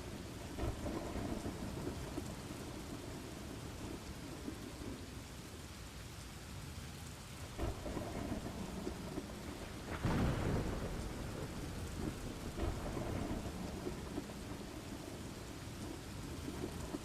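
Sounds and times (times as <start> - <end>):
thunder rumbling: 0.0 - 5.2, 7.5 - 17.0
steady rain: 0.0 - 17.0.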